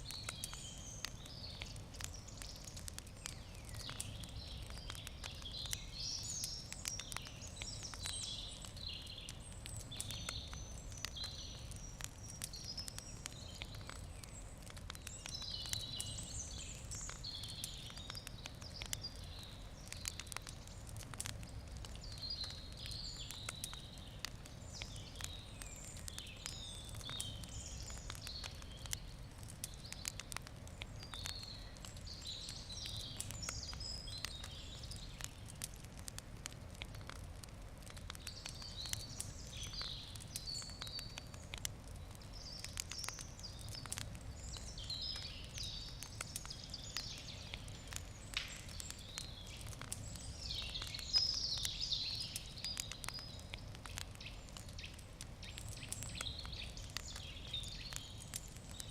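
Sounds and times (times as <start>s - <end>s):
campfire crackling and popping: 0.0s - 58.9s
low steady background hum: 0.0s - 58.9s.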